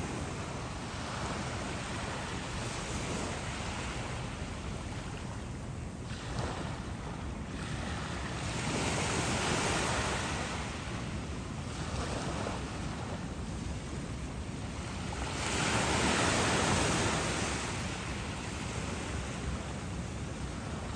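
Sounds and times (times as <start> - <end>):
wind rumble on microphone: 0.0 - 20.9.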